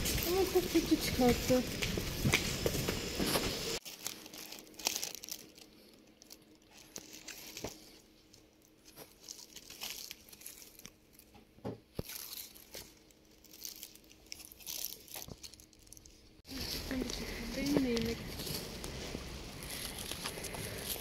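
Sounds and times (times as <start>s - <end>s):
crinkling and rustling: 0.0s - 21.0s
faint steady hum: 0.0s - 21.0s.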